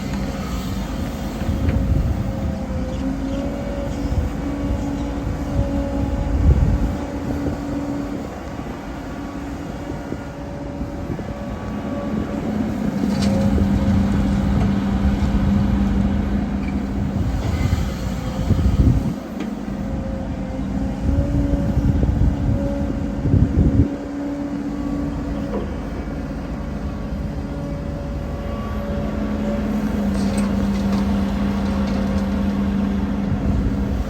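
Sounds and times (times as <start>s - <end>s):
diesel earthmoving machinery running: 0.0s - 34.0s.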